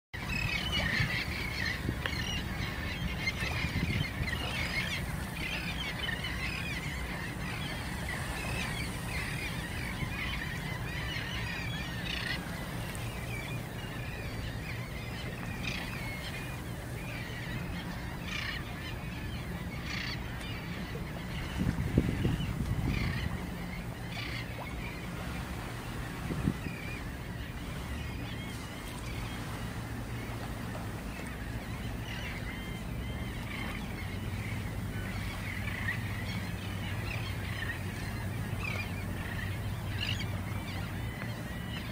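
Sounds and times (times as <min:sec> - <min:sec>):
birds chirping: 0:00.2 - 0:41.9.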